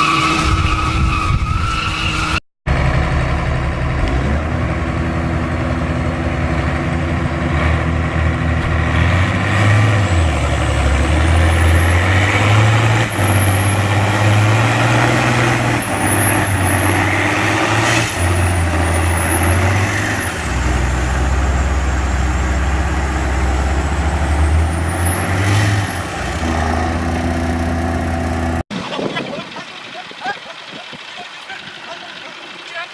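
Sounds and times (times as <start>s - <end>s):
diesel engine droning under load: 0.0s - 32.9s.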